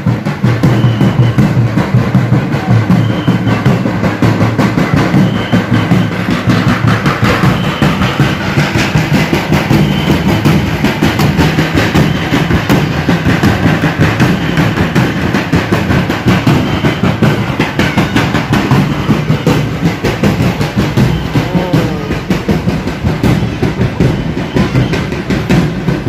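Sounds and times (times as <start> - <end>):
marching drums beating: 0.0 - 26.0.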